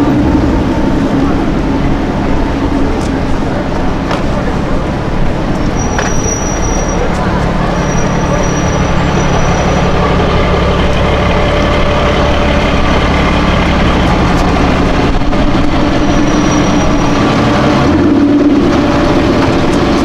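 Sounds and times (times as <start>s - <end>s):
vehicle engine running low revs: 0.0s - 20.0s.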